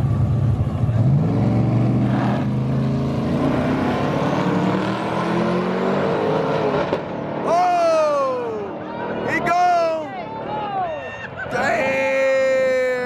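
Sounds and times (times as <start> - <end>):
race car engines accelerating: 0.0 - 10.6.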